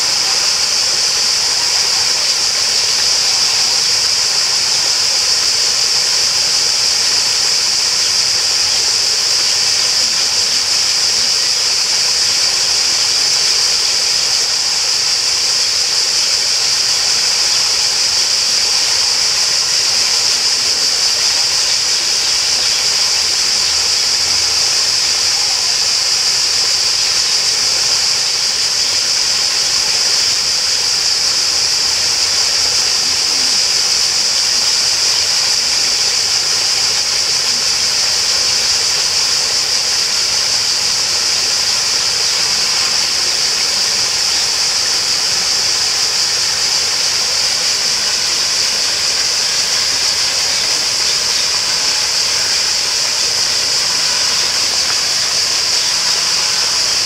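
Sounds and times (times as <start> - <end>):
high-pitched hiss: 0.0 - 57.0
rushing water: 0.0 - 57.0.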